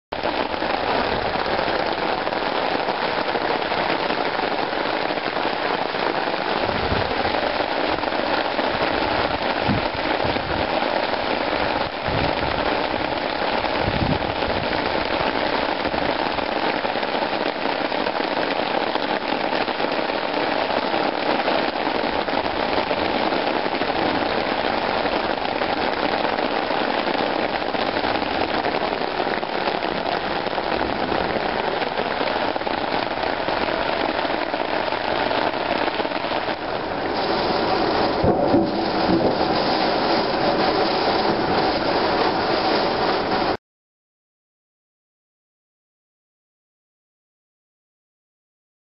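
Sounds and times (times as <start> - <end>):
rain falling on a lawn: 0.1 - 43.6.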